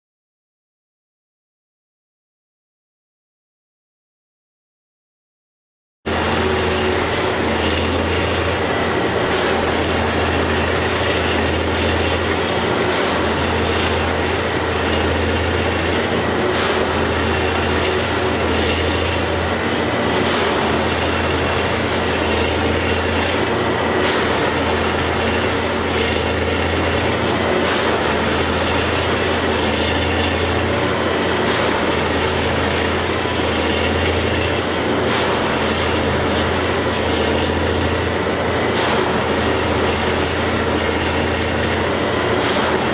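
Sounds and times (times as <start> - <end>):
constant mechanical noise: 6.1 - 42.9.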